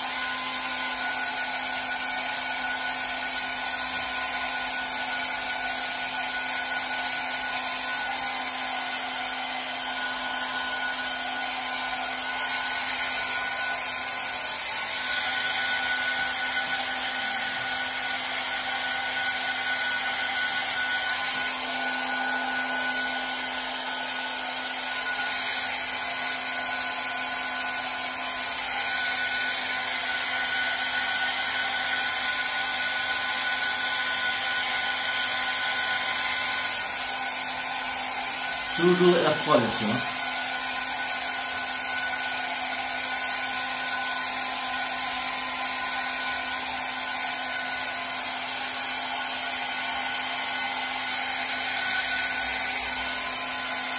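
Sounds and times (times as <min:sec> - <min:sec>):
hair dryer running: 0:00.0 - 0:53.9.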